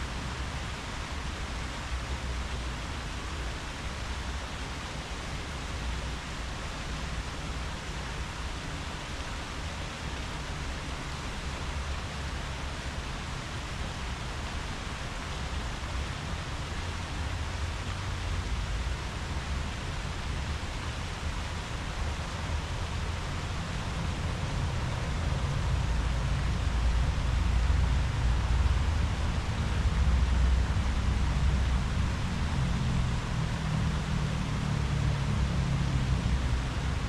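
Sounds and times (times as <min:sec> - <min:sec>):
wind rustling tree leaves: 0:00.0 - 0:37.0.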